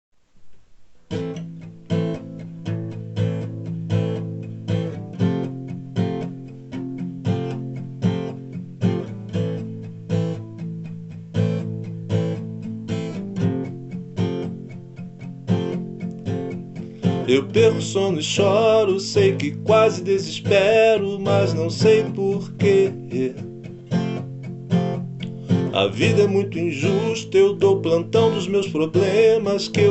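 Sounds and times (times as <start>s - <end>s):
acoustic guitar strumming chords: 1.1s - 29.9s.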